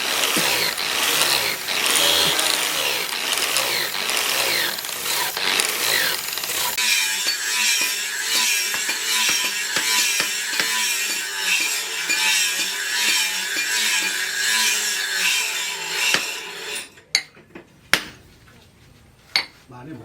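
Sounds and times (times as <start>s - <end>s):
hand tool sawing strokes: 0.0s - 17.0s.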